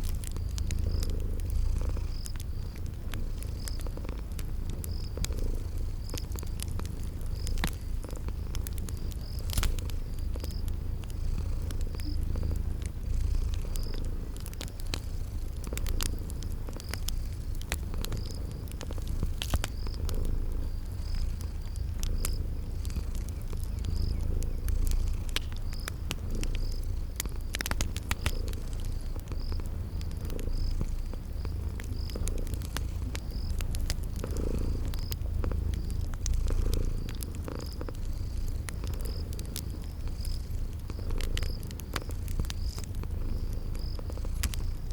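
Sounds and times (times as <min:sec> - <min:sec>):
cat purring: 0:00.0 - 0:44.9
cricket chirping: 0:00.0 - 0:44.9
wood fire crackling and popping: 0:00.0 - 0:44.9.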